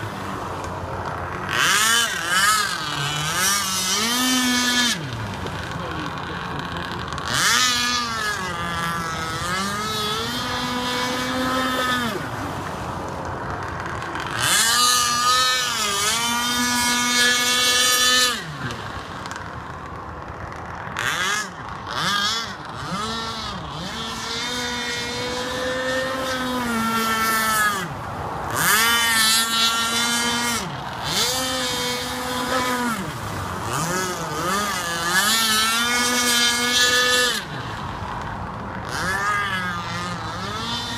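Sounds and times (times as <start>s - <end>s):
boat engine revving: 0.0s - 40.9s.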